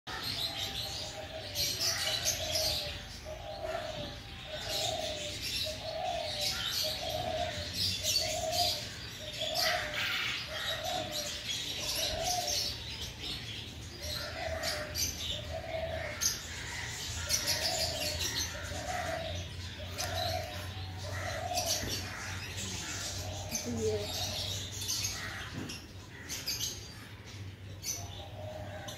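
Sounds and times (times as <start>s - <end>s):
small birds chirping: 0.1s - 28.9s
bird cooing: 0.2s - 13.4s, 14.0s - 25.4s, 27.8s - 28.9s.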